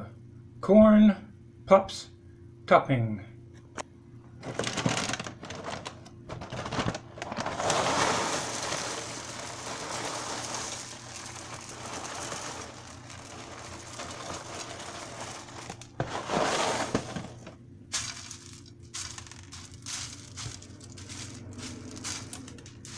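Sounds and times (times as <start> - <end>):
cereal pouring rattle: 4.5 - 22.9.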